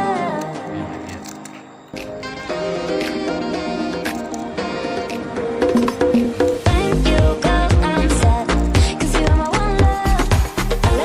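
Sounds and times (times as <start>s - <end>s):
melodic instrumental music: 0.0s - 11.0s.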